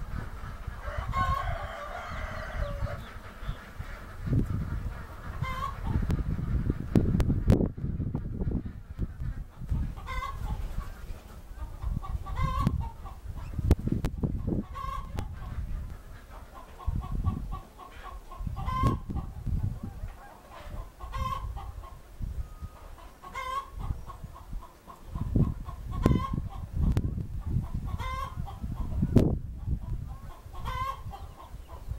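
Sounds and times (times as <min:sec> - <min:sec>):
chickens clucking: 0:00.0 - 0:31.9.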